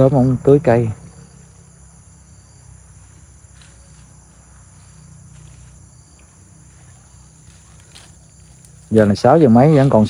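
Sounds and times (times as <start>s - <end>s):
crickets trilling: 0.0s - 10.0s
low steady rumble: 0.0s - 10.0s.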